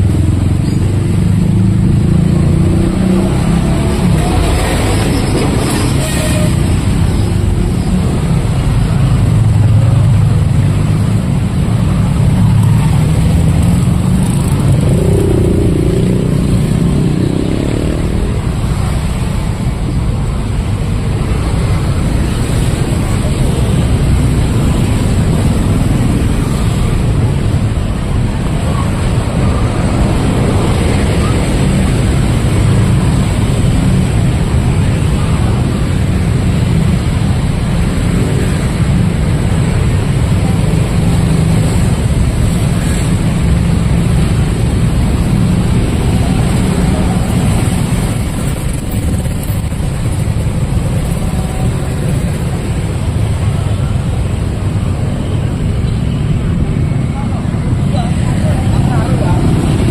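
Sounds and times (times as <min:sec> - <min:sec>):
traffic rumble: 0:00.0 - 0:59.9
voices: 0:00.0 - 0:59.9.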